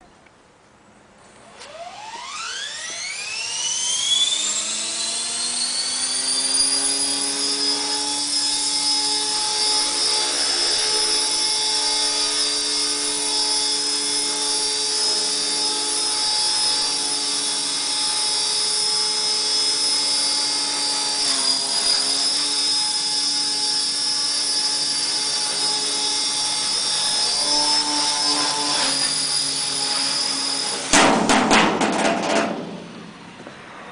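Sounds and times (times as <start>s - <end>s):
rc helicopter motor whine: 1.3s - 31.0s.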